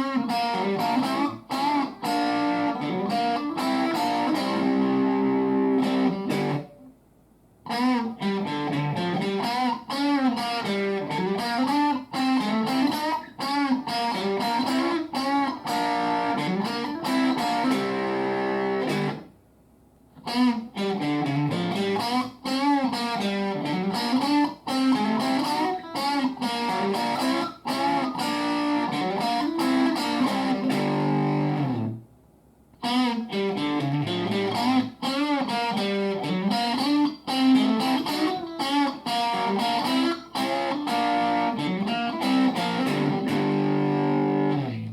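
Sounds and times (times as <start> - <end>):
distorted electric guitar lead: 0.0 - 6.9, 7.6 - 19.3, 20.2 - 32.0, 32.8 - 44.9.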